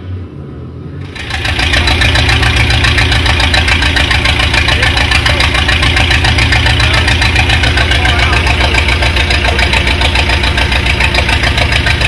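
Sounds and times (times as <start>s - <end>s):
low hum: 0.0s - 12.0s
car engine idling loudly: 1.0s - 12.0s.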